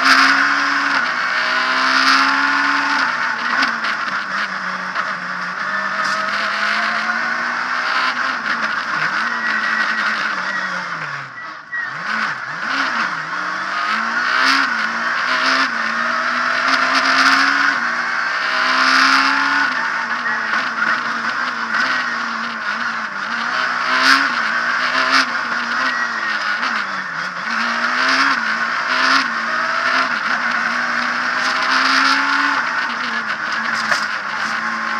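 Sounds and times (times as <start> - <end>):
engine blips on downshifts: 0.0 - 34.9
rally car engine revving: 0.0 - 34.9.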